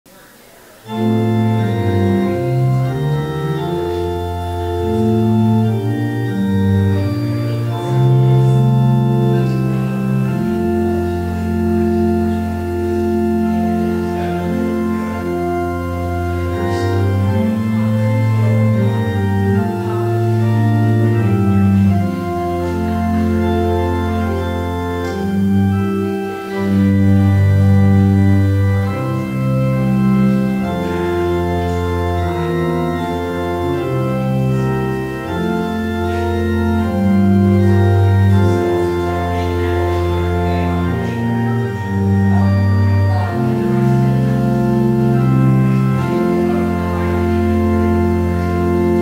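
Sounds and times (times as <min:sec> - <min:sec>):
organ playing slow chords: 0:00.1 - 0:49.0.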